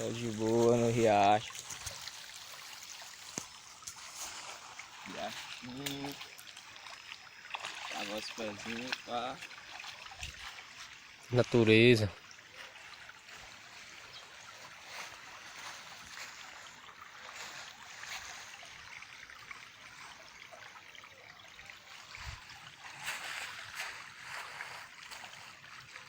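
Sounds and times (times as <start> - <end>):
small stream trickling: 0.0 - 26.0.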